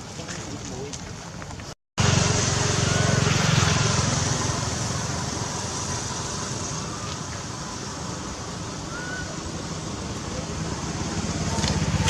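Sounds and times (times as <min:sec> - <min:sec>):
outdoor background noise: 0:00.0 - 0:12.0
passing vehicle rumble: 0:02.0 - 0:12.0.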